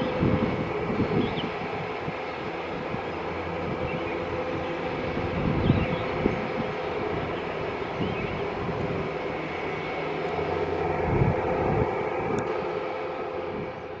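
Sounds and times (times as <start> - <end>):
turboprop engines running: 0.0 - 14.0.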